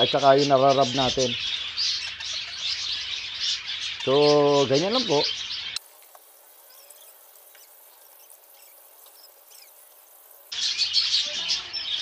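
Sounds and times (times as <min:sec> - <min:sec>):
cage birds chirping and chattering: 0:00.0 - 0:12.0.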